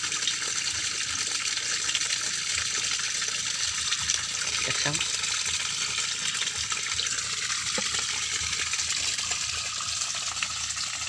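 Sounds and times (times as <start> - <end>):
water running into pond: 0.0 - 11.0.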